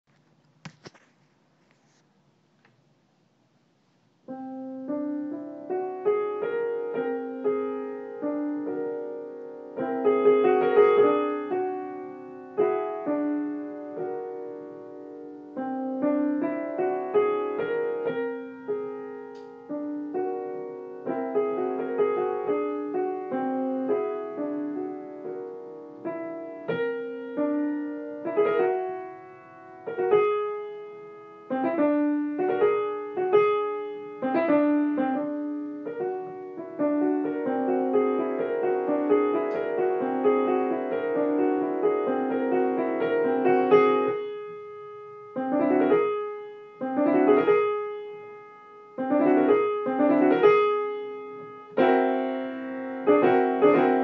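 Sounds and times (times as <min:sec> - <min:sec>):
solo piano: 0:03.9 - 0:54.0.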